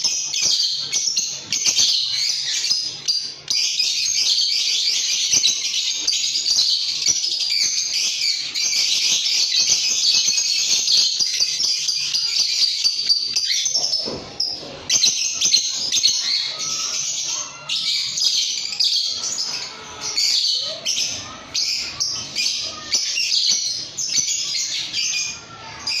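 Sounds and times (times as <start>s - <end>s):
lovebirds chirping: 0.0s - 26.0s.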